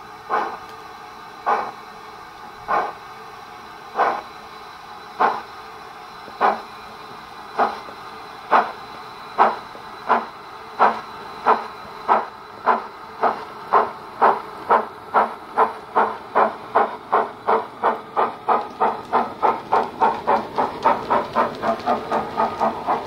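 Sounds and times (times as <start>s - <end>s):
steam locomotive exhaust chuffs: 0.0s - 23.0s.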